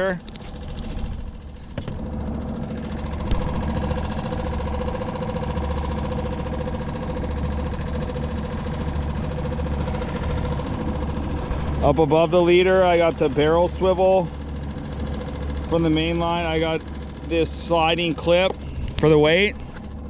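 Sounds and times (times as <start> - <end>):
small boat motor humming: 0.0 - 20.0.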